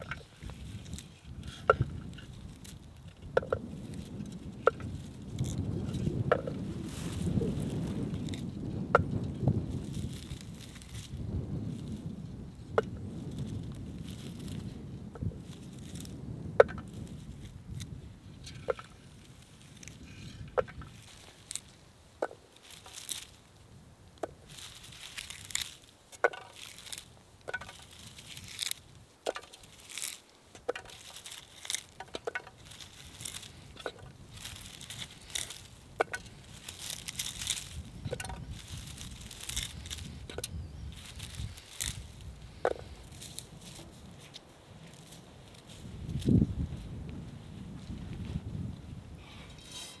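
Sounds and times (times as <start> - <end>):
hands rustling through shrubs: 0.0 - 49.1.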